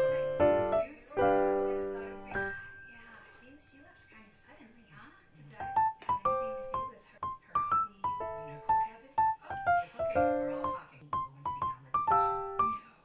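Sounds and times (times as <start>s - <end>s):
light piano tune: 0.0s - 4.2s, 5.5s - 13.0s.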